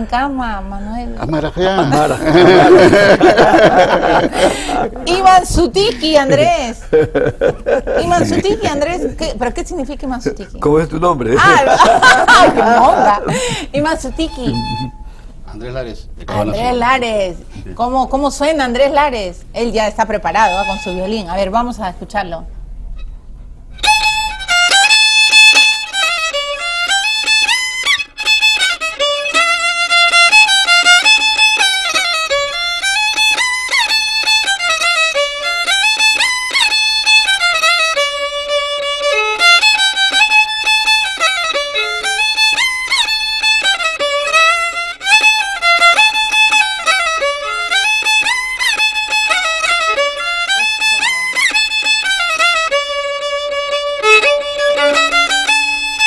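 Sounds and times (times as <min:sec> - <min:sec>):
violin melody: 0:01.1 - 0:10.4, 0:11.4 - 0:17.1, 0:20.1 - 0:21.7, 0:22.9 - 0:56.0.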